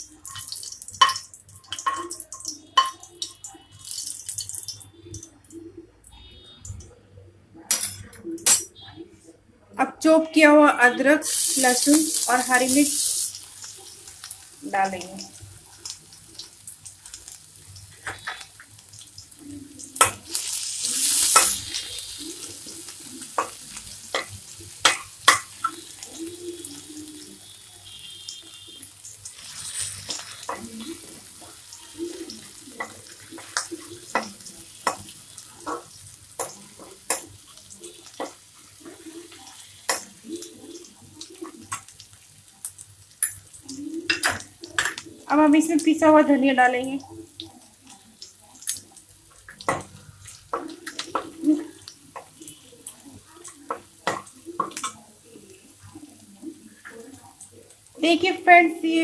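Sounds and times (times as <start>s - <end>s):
food sizzling in hot oil: 0.0s - 6.8s, 10.0s - 59.0s.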